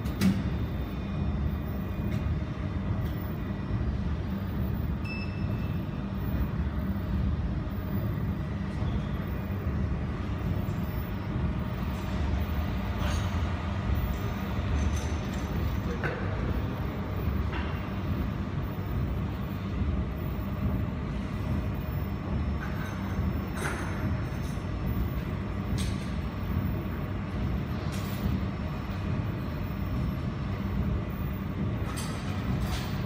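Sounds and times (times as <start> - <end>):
machine and fans humming: 0.0 - 33.0.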